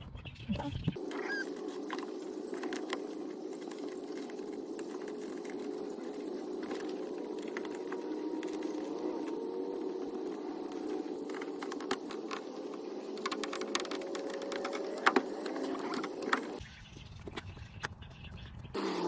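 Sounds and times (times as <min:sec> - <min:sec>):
steady low hum: 0:00.6 - 0:16.8.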